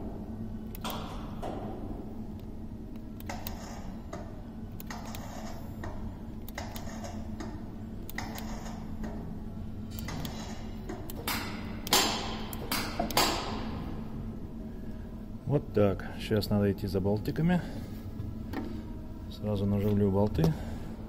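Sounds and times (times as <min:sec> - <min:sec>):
workshop hum: 0:00.0 - 0:21.0.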